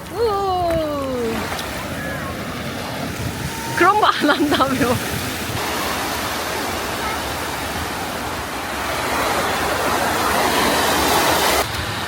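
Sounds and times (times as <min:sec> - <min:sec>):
sea surf washing onto beach: 0:00.0 - 0:12.0.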